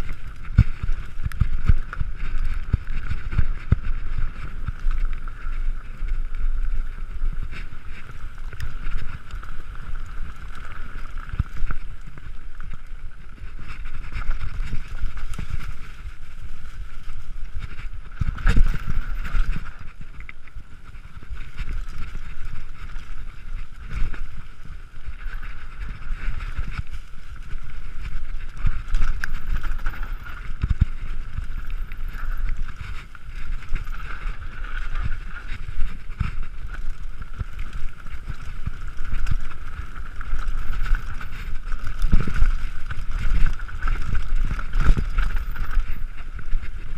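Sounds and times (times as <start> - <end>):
wind rumbling on microphone: 0.0 - 46.9.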